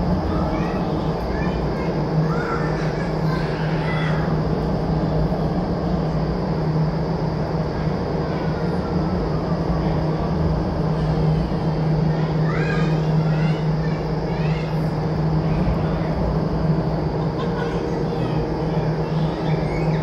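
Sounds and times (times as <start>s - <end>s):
constant low hum: 0.0s - 20.0s
rush of air from fans: 0.0s - 20.0s.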